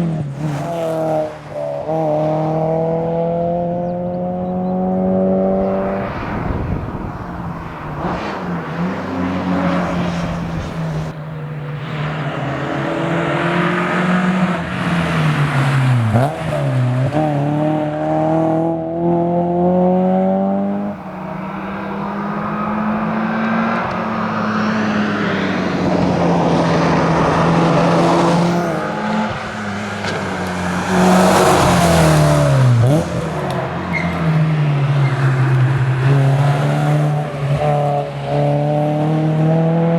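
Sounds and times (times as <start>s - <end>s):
four-cylinder engine accelerating: 0.0s - 39.9s.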